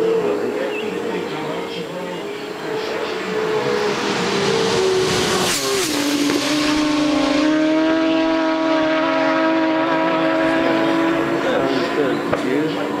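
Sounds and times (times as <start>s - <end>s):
motorcycle racing past: 2.2s - 13.0s.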